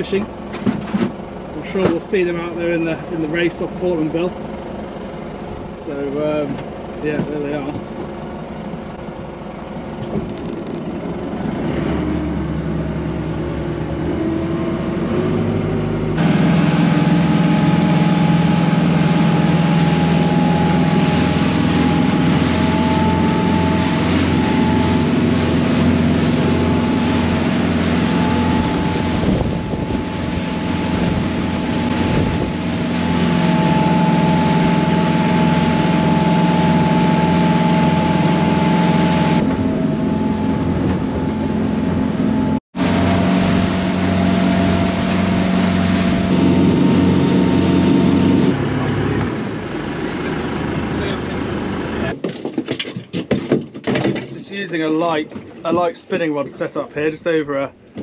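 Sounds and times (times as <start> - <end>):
motorboat engine running: 0.0 - 52.2.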